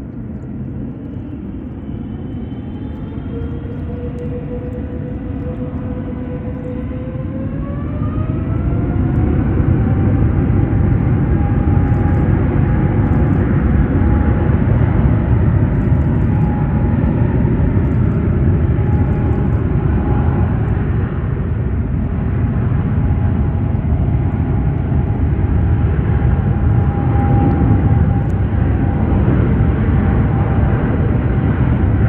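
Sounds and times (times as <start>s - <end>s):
jet engines spooling up: 0.0s - 32.0s.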